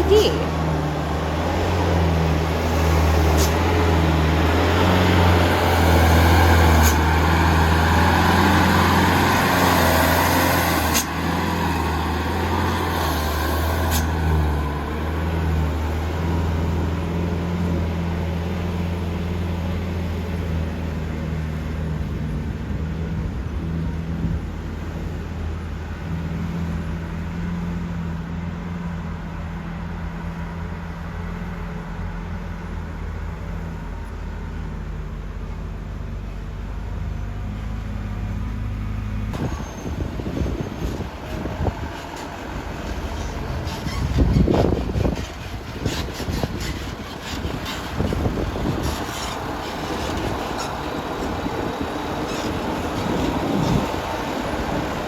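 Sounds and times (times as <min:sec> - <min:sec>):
truck engine under load: 0:00.0 - 0:55.0.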